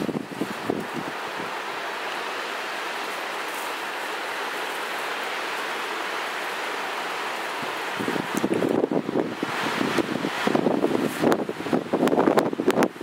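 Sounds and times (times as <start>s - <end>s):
wind blowing through trees: 0.0s - 13.0s.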